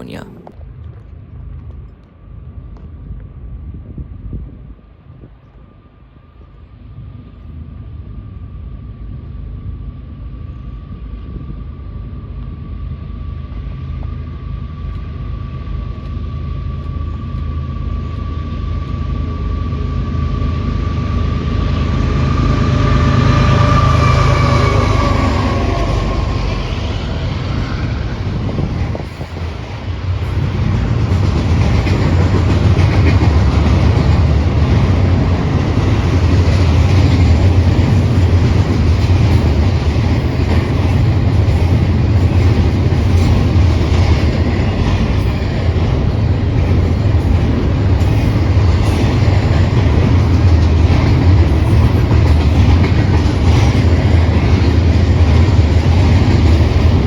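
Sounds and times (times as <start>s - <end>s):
freight train rumbling past: 0.0s - 0.6s, 2.2s - 57.0s.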